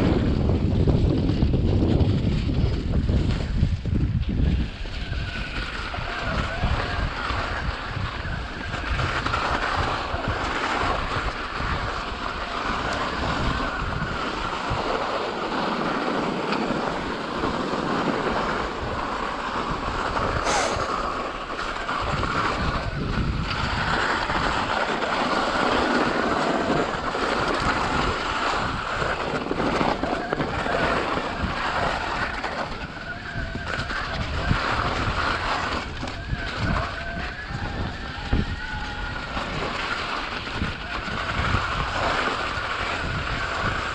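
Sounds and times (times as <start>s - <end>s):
wind rushing over microphone: 0.0s - 43.9s.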